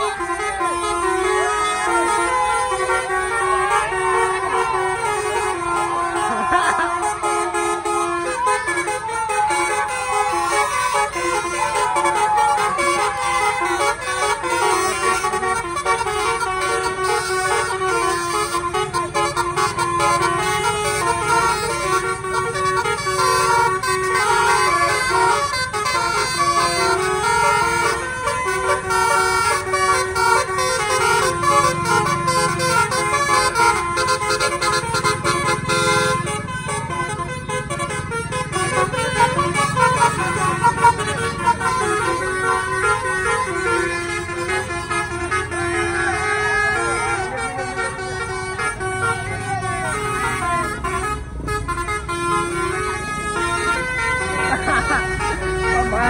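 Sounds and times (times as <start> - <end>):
bus horn playing a tune: 0.0 - 56.0
low vehicle rumble: 0.0 - 56.0.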